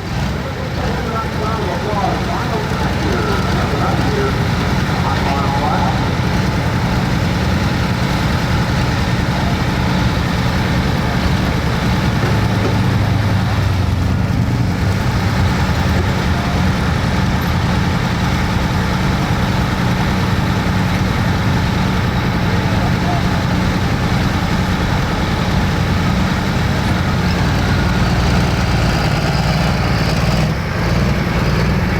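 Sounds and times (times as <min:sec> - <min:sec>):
tractor diesel engine droning: 0:00.0 - 0:31.9.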